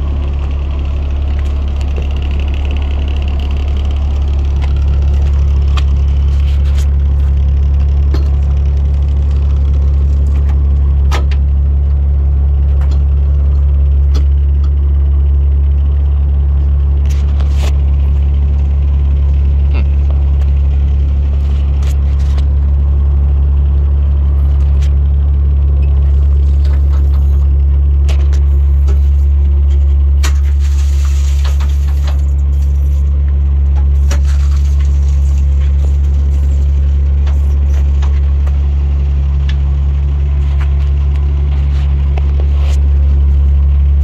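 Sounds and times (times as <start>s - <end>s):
diesel engine idling: 0.0s - 44.0s.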